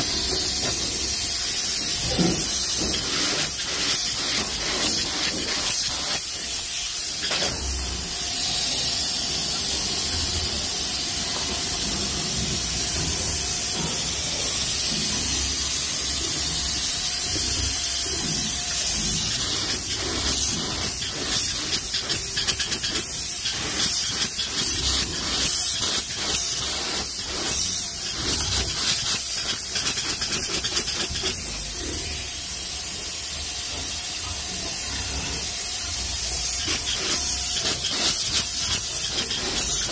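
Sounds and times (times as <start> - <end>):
spray-foam gun hissing: 0.0 - 39.9.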